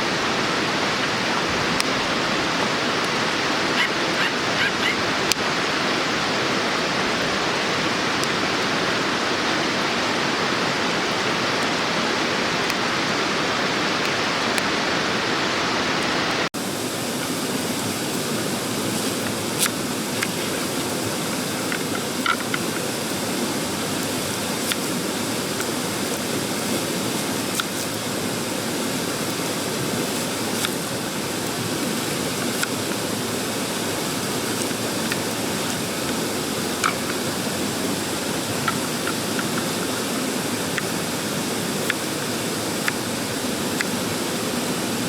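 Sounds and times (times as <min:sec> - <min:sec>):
mountain stream rushing: 0:00.0 - 0:45.0.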